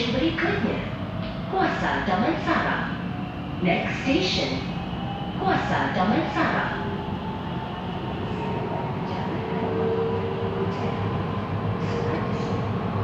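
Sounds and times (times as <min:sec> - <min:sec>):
metro train wheels rumbling: 0:00.0 - 0:13.0.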